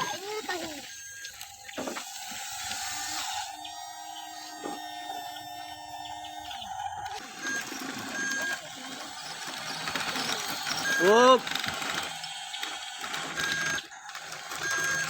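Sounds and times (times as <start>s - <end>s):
toy electric motor whining: 0.0s - 15.0s.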